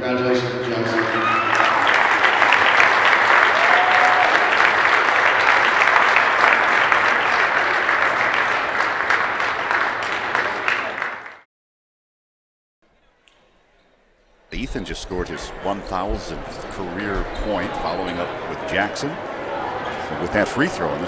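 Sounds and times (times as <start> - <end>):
crowd applauding: 0.4 - 11.4, 14.8 - 21.0.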